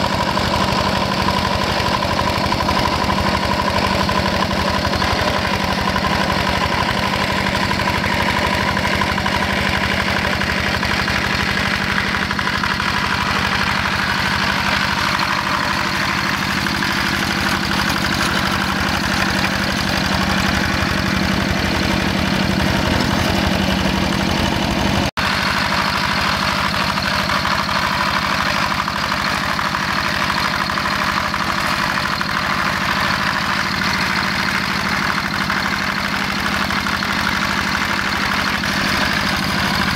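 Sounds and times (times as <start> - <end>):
diesel hand tractor running: 0.0 - 39.9.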